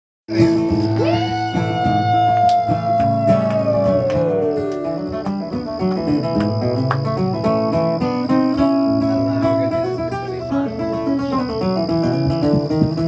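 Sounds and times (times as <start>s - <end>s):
guitars: 0.3s - 13.0s
live country band playing: 0.3s - 13.0s.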